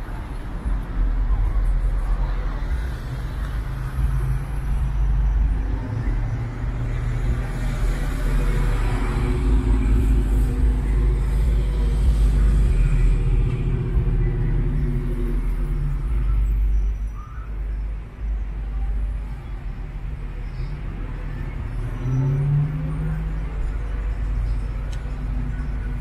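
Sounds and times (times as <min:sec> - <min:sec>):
car engine and road rumble: 0:00.0 - 0:26.0
surrounding traffic: 0:00.0 - 0:26.0.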